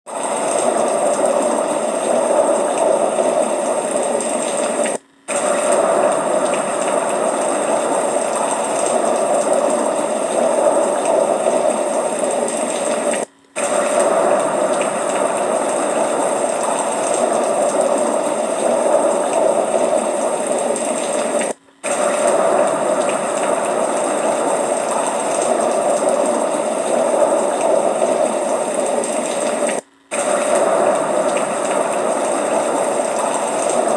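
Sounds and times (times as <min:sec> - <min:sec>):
water rushing: 0:00.1 - 0:33.9.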